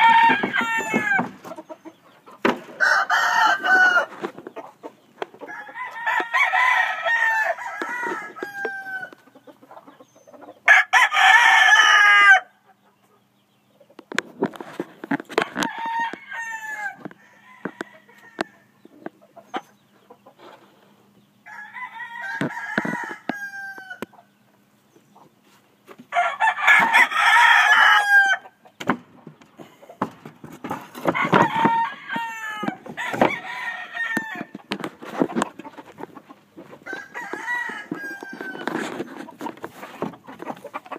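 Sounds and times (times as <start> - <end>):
roosters crowing: 0.0 - 12.7, 14.5 - 19.0, 21.3 - 24.5, 26.0 - 28.8, 29.6 - 40.9.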